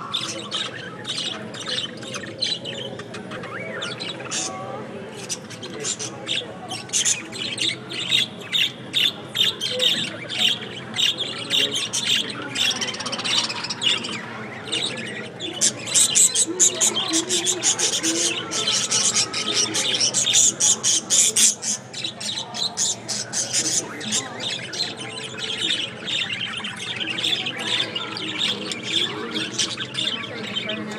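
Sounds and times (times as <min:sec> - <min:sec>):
budgerigars chattering: 0:00.0 - 0:30.9.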